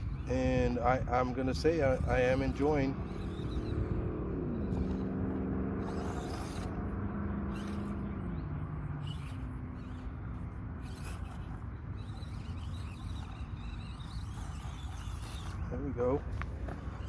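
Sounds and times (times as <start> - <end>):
small electric motor humming: 0.0 - 17.0.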